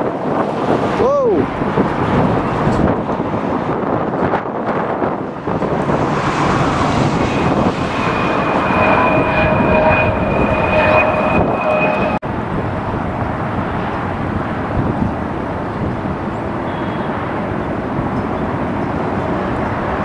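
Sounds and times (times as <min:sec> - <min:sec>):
jet engines passing: 0:00.0 - 0:20.0
high engine whine: 0:00.4 - 0:20.0.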